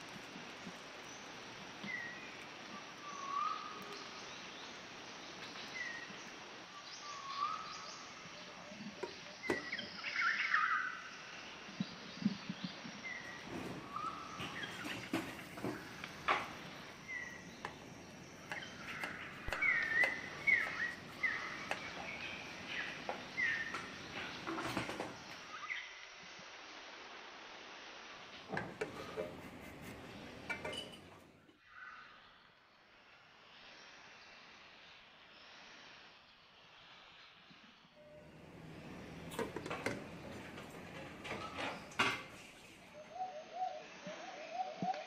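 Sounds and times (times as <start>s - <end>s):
steady background hiss: 0.0s - 45.0s
birds chirping: 0.1s - 25.9s, 28.5s - 32.0s, 38.0s - 45.0s.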